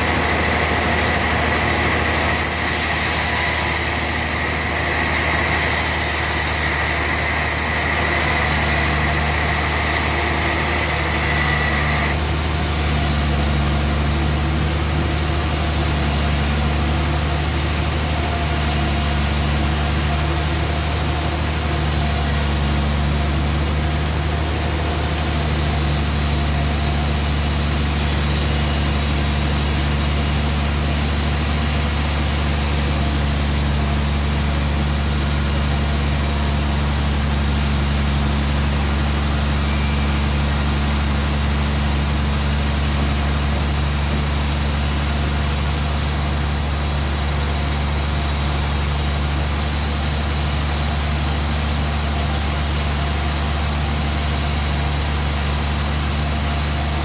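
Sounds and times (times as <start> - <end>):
sawmill engine humming: 0.0 - 57.0.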